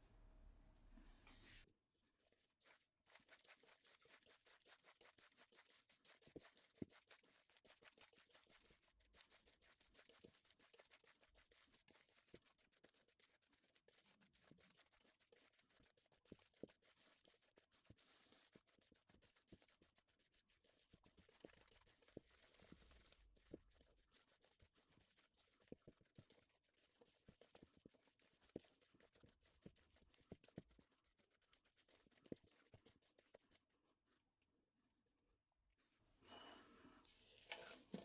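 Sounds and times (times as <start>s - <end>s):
faint scratching with clicks: 0.8s - 34.3s.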